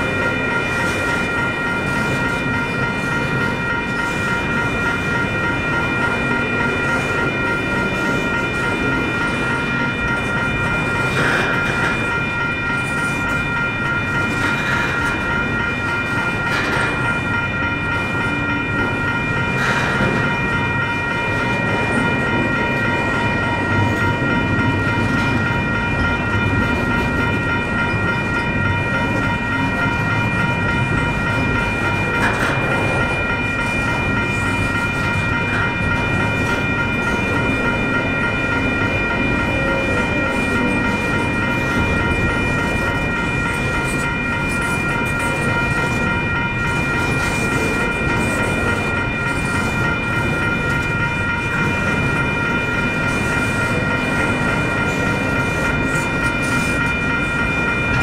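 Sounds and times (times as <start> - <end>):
freight train rumbling on rails: 0.0 - 58.0.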